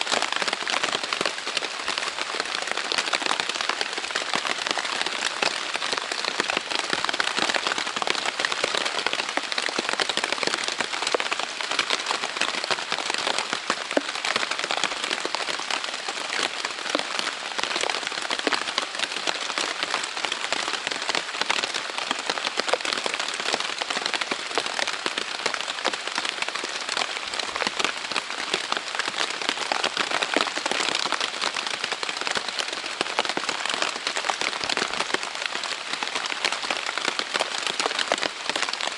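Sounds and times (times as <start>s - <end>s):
heavy rain on tent fabric: 0.0s - 38.9s.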